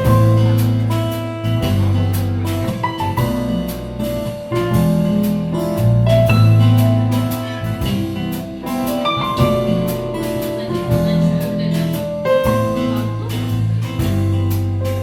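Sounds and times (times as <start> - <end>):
bass notes: 0.0 - 15.0
drum kit beat: 0.0 - 15.0
keyboard chords: 0.0 - 15.0.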